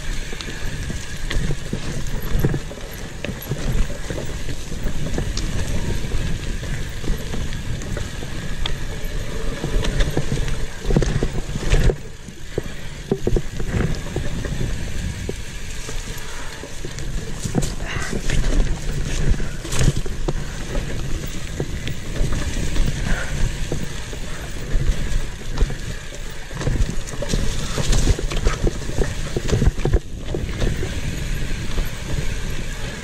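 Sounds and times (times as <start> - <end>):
bike knocking and rattling: 0.0 - 33.0
bike tyres rumbling on dirt: 0.0 - 33.0.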